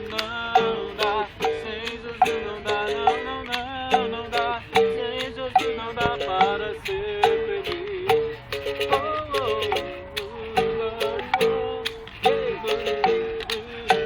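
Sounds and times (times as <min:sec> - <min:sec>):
acoustic guitar: 0:00.0 - 0:14.0
agogo bell: 0:00.0 - 0:14.0
berimbau: 0:00.0 - 0:14.0
percussive strikes: 0:00.0 - 0:14.0
voices singing: 0:00.0 - 0:14.0.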